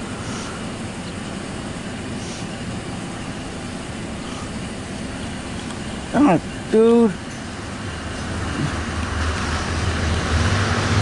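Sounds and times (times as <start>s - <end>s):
distant freight train rumble: 0.0s - 11.0s.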